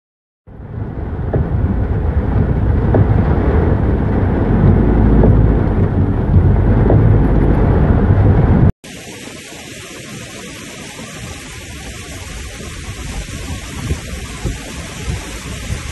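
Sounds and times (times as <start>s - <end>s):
waterfall rushing rumble: 0.5s - 15.9s.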